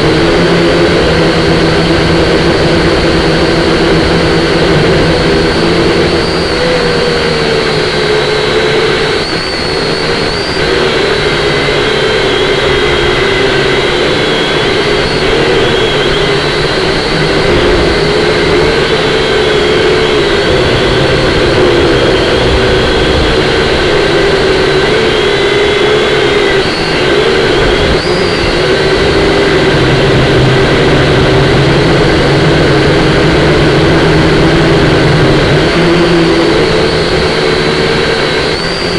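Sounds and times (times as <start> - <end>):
drone propellers whining: 0.0 - 38.9
wind noise rumble: 0.0 - 38.9.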